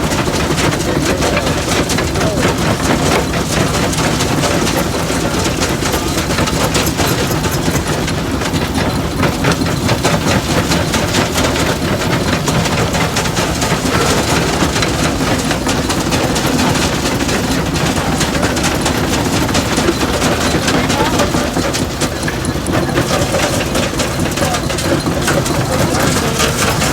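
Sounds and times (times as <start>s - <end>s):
machinery clattering: 0.0s - 26.9s.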